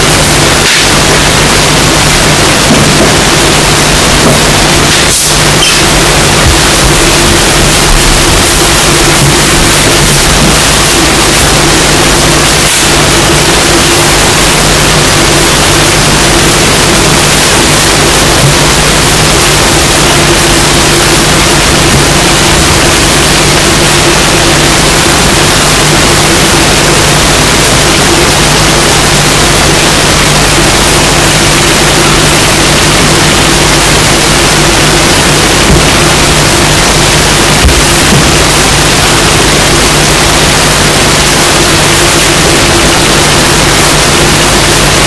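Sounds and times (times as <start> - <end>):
low hum: 0.0 - 44.6
steady hiss: 0.0 - 45.0.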